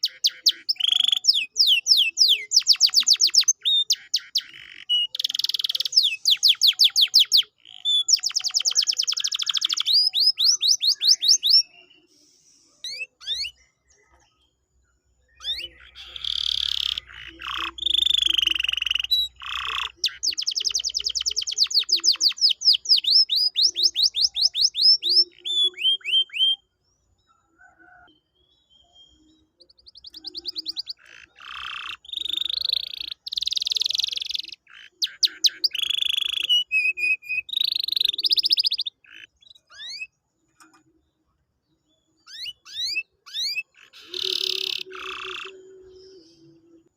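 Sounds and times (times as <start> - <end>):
canary singing: 0.0 - 14.6, 15.3 - 46.9.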